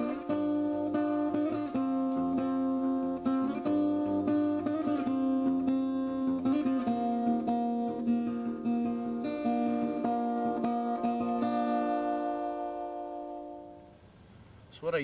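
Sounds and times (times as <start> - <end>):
acoustic guitar music: 0.0 - 14.1.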